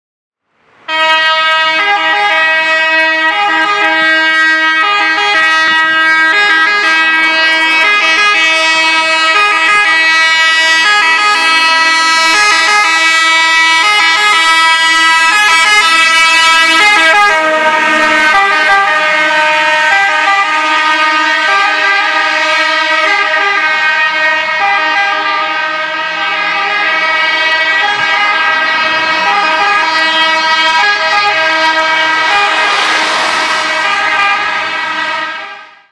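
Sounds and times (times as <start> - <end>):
truck engine and road noise: 0.4 - 35.9
fire engine two-tone siren: 0.9 - 35.9.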